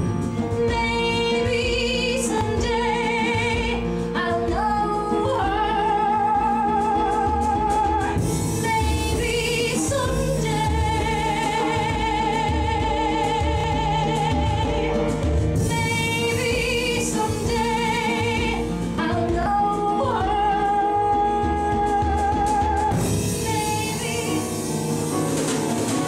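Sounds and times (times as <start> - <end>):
woman singing with vibrato: 0.0 - 25.2
instrumental accompaniment: 0.0 - 26.0.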